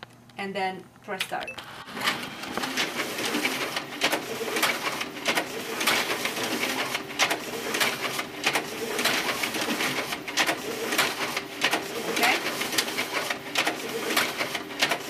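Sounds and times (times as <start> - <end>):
copier feeder motor whirring: 1.6 - 15.0
sharp clacks of sheets feeding: 2.5 - 15.0.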